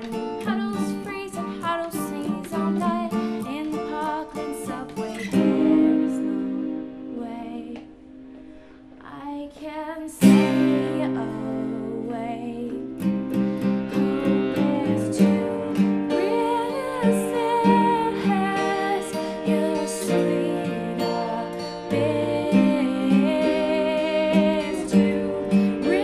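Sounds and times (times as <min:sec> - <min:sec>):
strummed acoustic guitar: 0:00.0 - 0:08.8, 0:10.2 - 0:26.0
person singing: 0:00.0 - 0:26.0.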